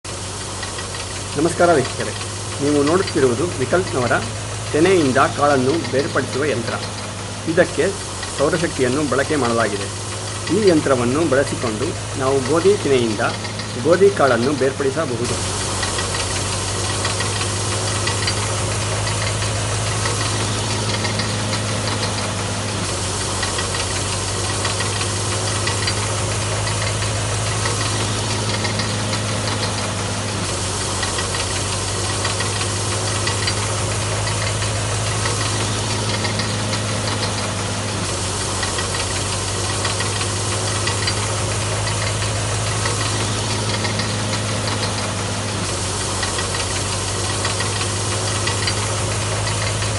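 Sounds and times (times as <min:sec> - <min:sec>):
grain thresher humming and rattling: 0:00.0 - 0:49.9.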